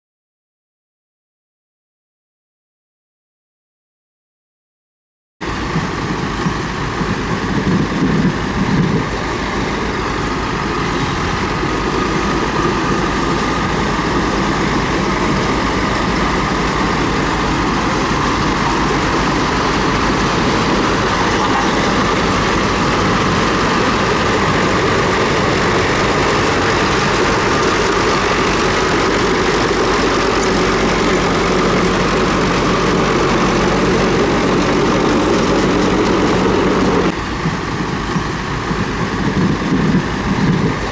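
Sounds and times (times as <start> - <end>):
bulldozer diesel engine running: 5.4 - 40.9.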